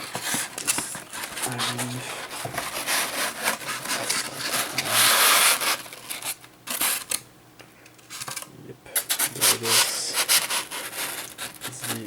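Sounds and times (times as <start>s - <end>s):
packaging rubbing and scraping: 0.0s - 7.2s, 9.0s - 12.0s.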